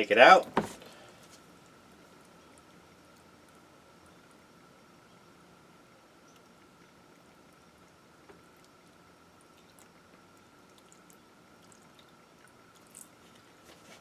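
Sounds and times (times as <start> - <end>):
faint high hum: 0.0 - 14.0
liquid pouring and dripping: 1.2 - 13.9.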